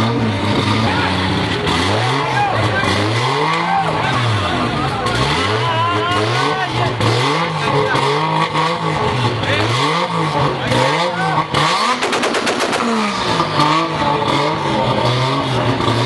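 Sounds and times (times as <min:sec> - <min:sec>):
car engine revving: 0:00.0 - 0:16.0
exhaust pops and crackles: 0:00.0 - 0:16.0.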